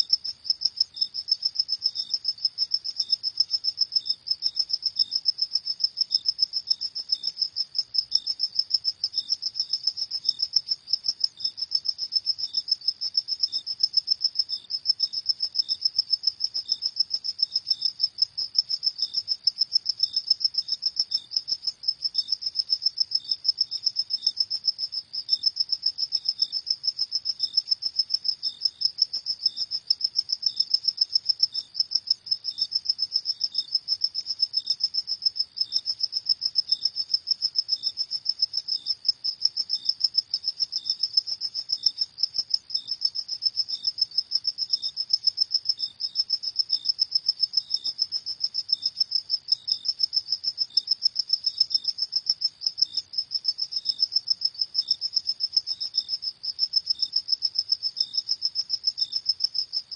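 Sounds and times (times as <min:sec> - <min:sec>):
crickets chirping: 0:00.0 - 0:59.9
fainter lower cricket chirping: 0:00.0 - 0:59.9.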